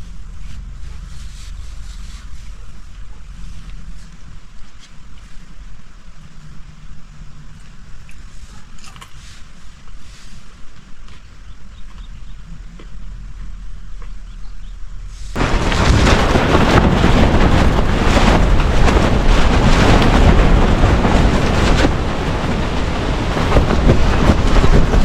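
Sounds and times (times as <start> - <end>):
wind buffeting the microphone: 0.0 - 6.0, 9.5 - 25.0
stormy wind and rain: 0.0 - 25.0.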